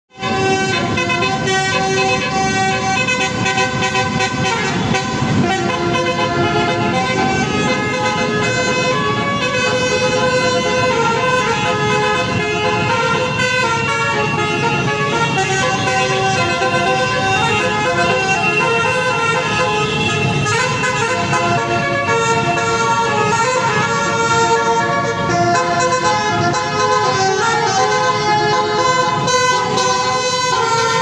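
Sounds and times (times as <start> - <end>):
musical air horn playing a tune: 0.1 - 31.0.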